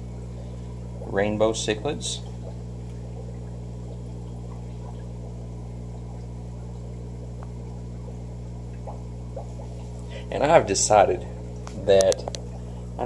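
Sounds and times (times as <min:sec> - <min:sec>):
aquarium pumps humming: 0:00.0 - 0:13.0.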